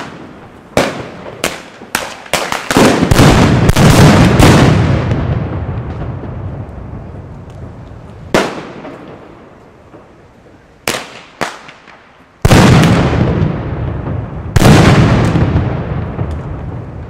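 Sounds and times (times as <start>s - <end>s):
firecracker bangs: 0.0s - 7.0s, 8.3s - 9.4s, 10.9s - 17.0s.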